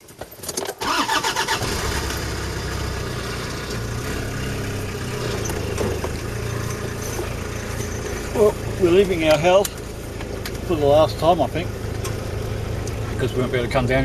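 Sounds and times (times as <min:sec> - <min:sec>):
car engine cranking: 0:00.0 - 0:14.0
car engine idling: 0:00.8 - 0:14.0.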